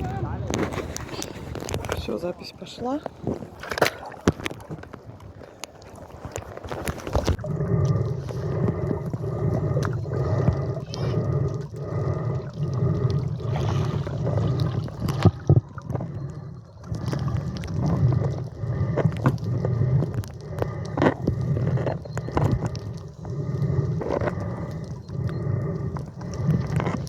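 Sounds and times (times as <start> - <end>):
muffled water sloshing: 0.0 - 27.0.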